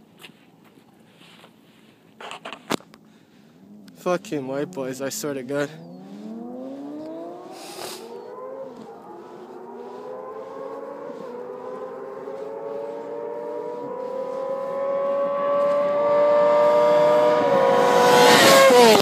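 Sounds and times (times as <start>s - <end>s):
motorcycle engines at full throttle: 3.5s - 19.0s.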